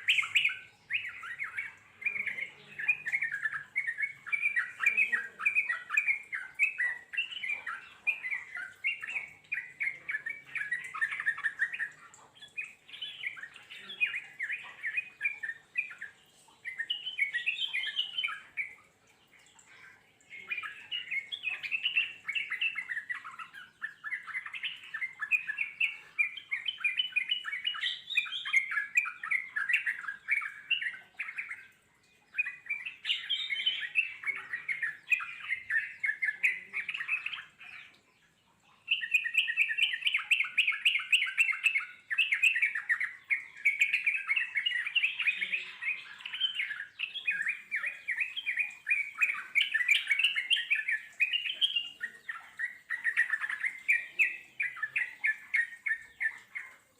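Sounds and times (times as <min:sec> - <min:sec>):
bird singing chattering song: 0:00.0 - 0:56.9.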